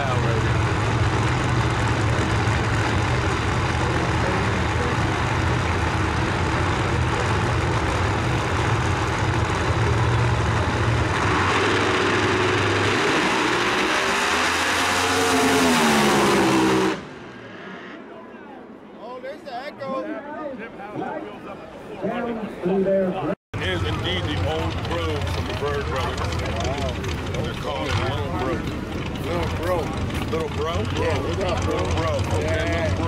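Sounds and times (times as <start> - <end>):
drag racing car engines: 0.0 - 18.8, 23.6 - 33.0.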